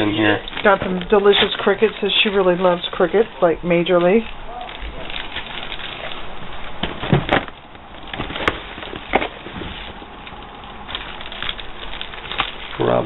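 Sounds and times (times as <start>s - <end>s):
container rustling: 0.0s - 13.0s.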